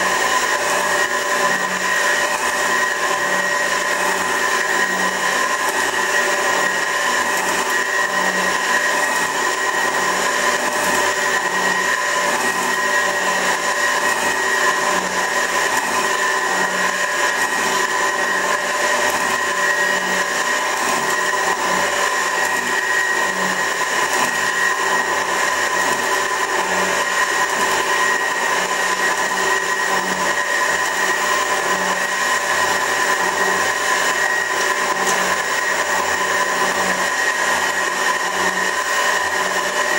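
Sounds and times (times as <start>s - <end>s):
metal shaper whining: 0.0s - 39.9s.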